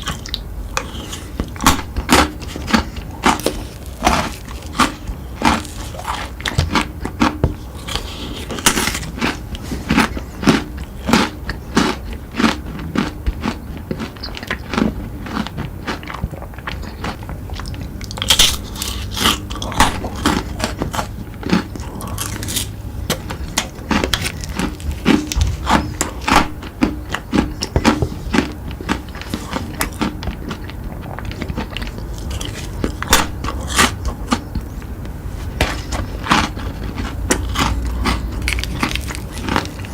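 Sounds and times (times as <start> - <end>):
chewing crunchy sweets: 0.0 - 39.9.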